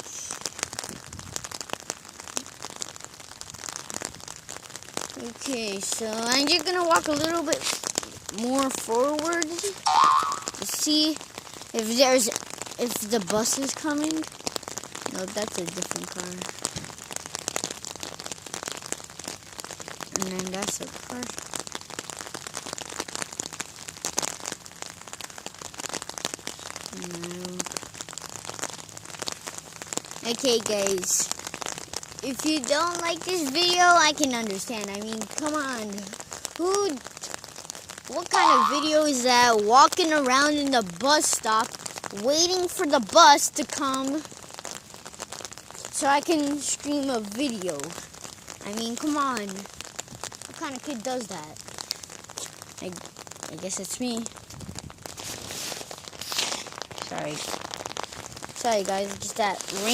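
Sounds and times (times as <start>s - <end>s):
rain falling: 0.0s - 59.9s
raindrops ticking close: 0.0s - 59.9s.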